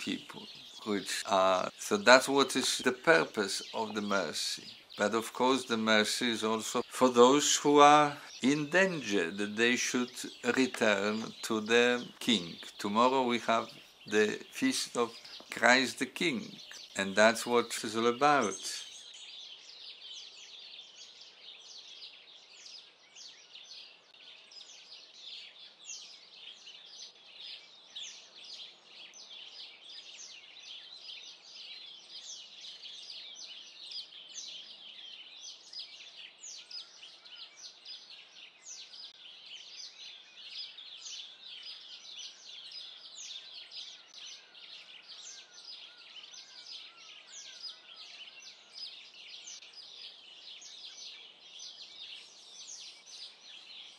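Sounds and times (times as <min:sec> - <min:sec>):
small birds chirping and twittering: 0:00.0 - 0:53.9.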